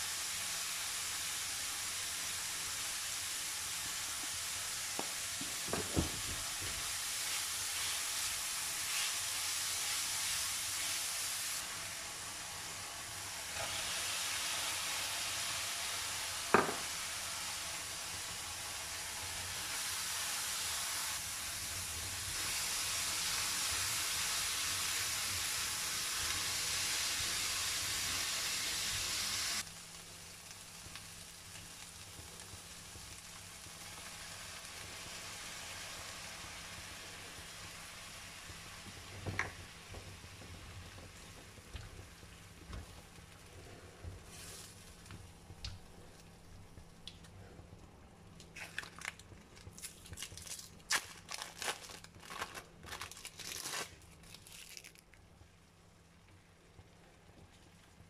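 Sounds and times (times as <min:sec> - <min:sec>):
food sizzling in frying pan: 0:00.0 - 0:47.2.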